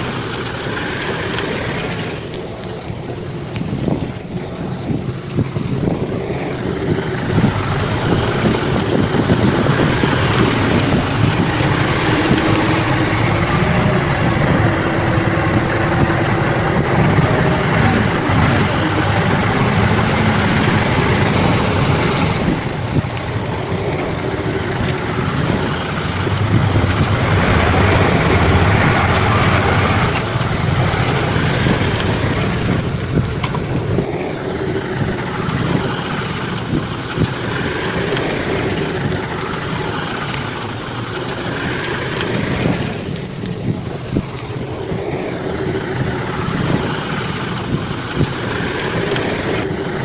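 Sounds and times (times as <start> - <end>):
bulldozer diesel engine running: 0.0 - 50.0.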